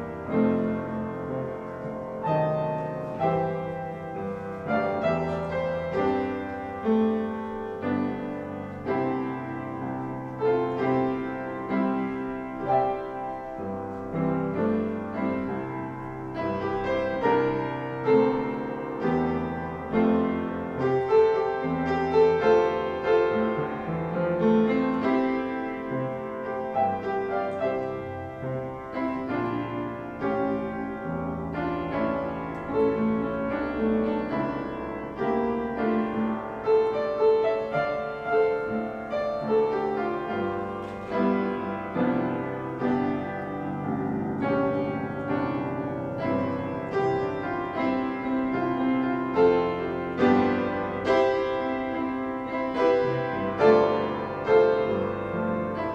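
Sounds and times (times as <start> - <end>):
piano playing chords and melody: 0.0 - 55.9.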